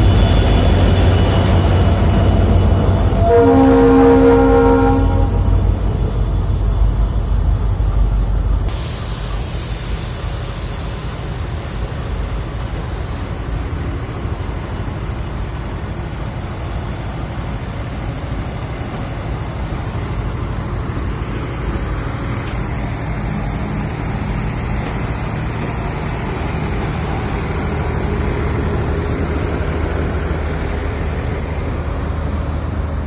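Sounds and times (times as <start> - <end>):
diesel locomotive engine drone: 0.0 - 33.0
train coaches rolling past: 0.0 - 33.0.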